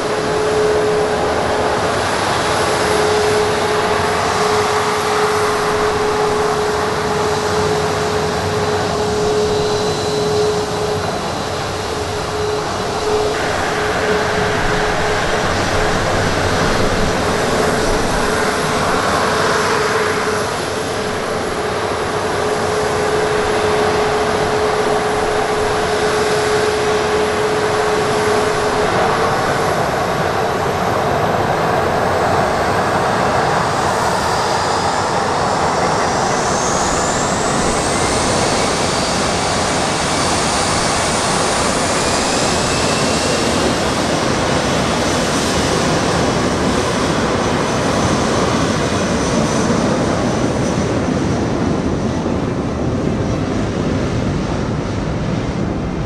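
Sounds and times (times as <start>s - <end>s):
jet engines humming and roaring: 0.0s - 56.0s
rising engine whines: 0.0s - 56.0s.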